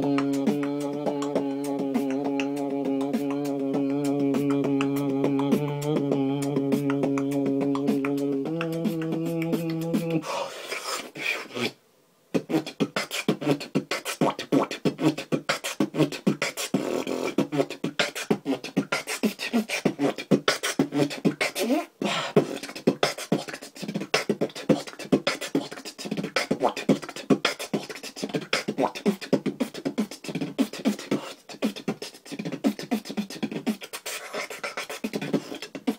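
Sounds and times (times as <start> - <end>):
beatboxing vocal percussion: 0.0 - 35.9.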